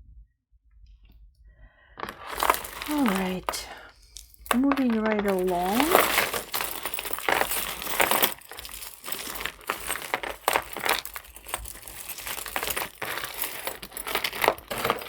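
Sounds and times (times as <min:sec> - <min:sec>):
jewelry clinking: 0:02.1 - 0:15.0
bag crinkling: 0:02.2 - 0:15.0.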